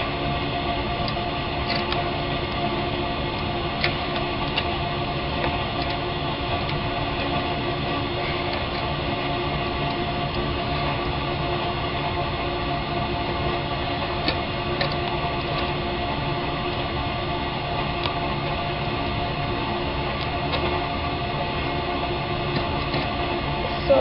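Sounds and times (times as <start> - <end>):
steady tonal drone: 0.0 - 24.0.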